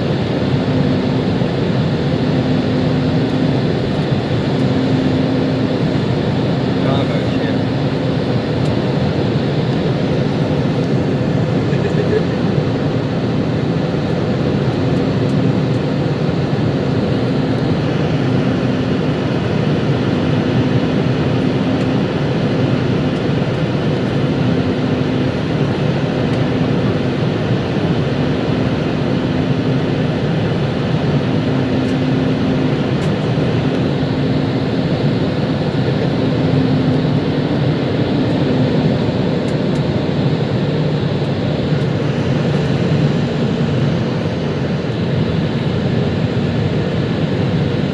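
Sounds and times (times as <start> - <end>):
aircraft cabin noise: 0.0 - 47.9.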